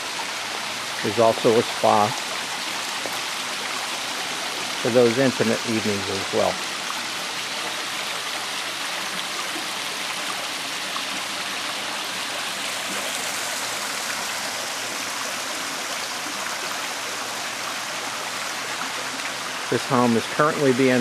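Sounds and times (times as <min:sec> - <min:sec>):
waterfall splashing water: 0:00.0 - 0:21.0.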